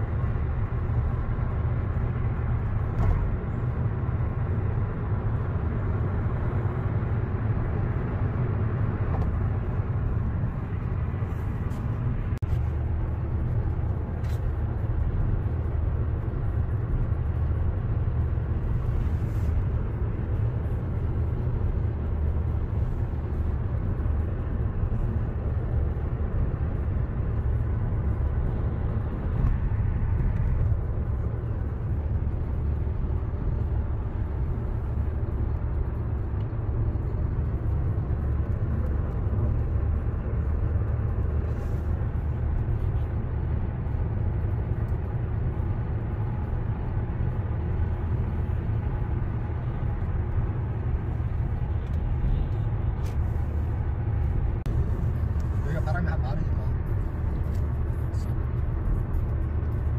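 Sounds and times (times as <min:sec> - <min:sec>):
tyre and engine rumble inside car: 0:00.0 - 0:59.9.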